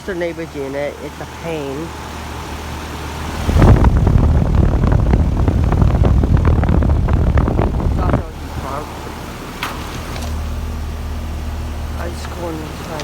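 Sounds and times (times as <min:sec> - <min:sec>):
fan rush of air: 0:00.0 - 0:13.0
low hum: 0:00.0 - 0:13.0.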